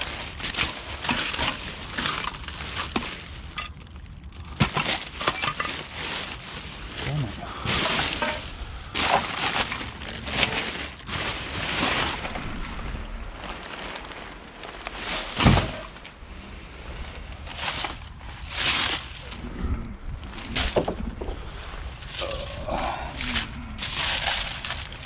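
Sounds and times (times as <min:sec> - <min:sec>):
plastic bags and paper rustling: 0:00.0 - 0:25.0.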